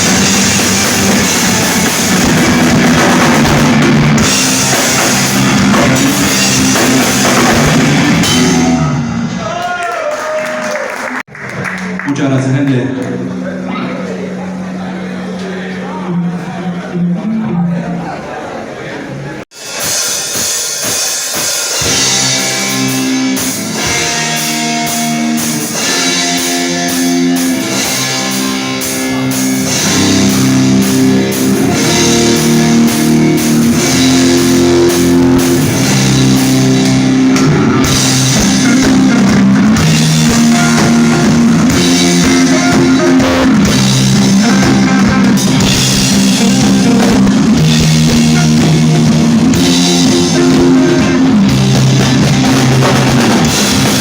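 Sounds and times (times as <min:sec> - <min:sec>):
electric guitars playing riff: 0:00.0 - 0:09.4, 0:11.4 - 0:18.1, 0:19.6 - 0:54.0
drum kit: 0:00.0 - 0:12.2, 0:19.5 - 0:54.0.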